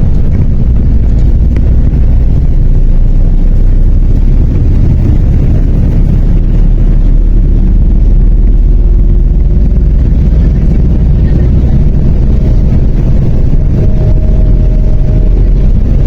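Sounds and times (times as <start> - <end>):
bus engine rumble: 0.0 - 16.0
faint steady whine: 0.0 - 16.0.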